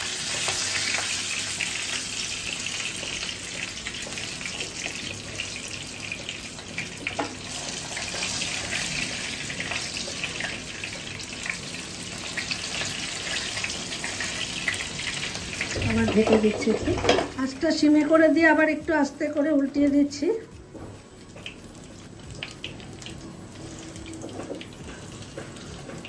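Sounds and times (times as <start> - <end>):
hot oil sizzling and spattering: 0.0 - 17.6, 21.0 - 26.0.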